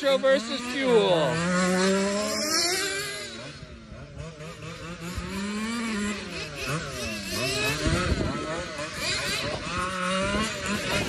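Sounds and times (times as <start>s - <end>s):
rc car engines revving: 0.0s - 11.0s.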